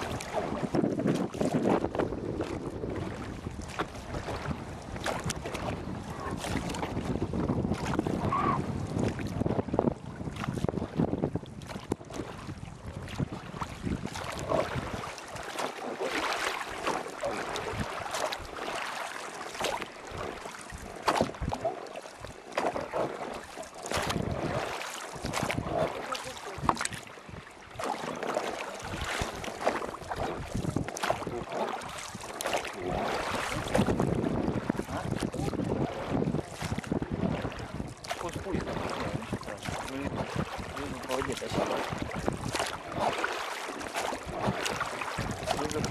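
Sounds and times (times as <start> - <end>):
wind buffeting microphone: 0.0 - 15.4, 16.8 - 18.6, 23.9 - 27.9, 28.8 - 45.9.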